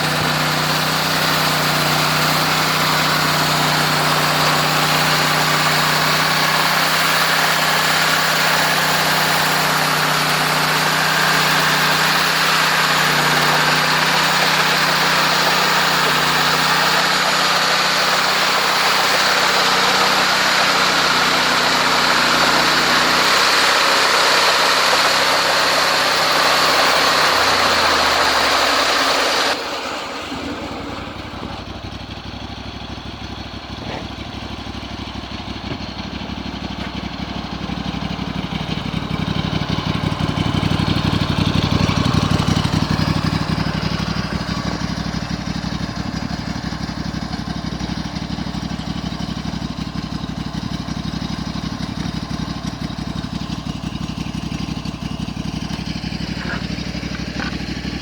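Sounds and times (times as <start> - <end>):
sawmill engine humming: 0.0 - 58.0.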